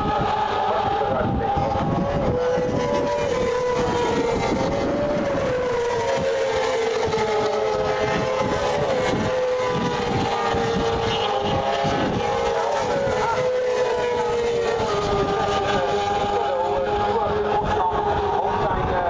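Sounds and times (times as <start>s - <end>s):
racing motorcycles at high revs: 0.0s - 19.0s
wind rumble on microphone: 0.0s - 19.0s.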